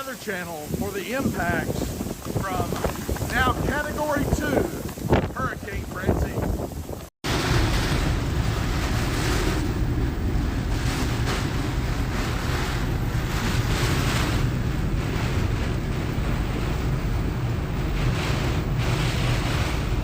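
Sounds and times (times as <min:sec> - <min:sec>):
strong wind gusting: 0:00.0 - 0:20.0
wind-driven rain: 0:00.0 - 0:20.0.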